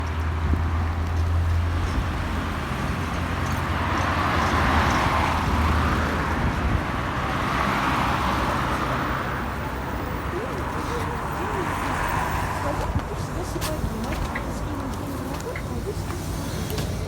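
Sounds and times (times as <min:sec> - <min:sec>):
bus engine hum: 0:00.0 - 0:17.0
tyre and road noise: 0:00.0 - 0:17.0.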